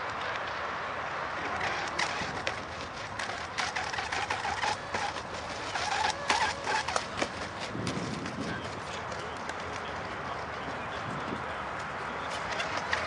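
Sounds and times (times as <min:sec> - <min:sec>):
model boat motor whine: 0:01.2 - 0:13.0.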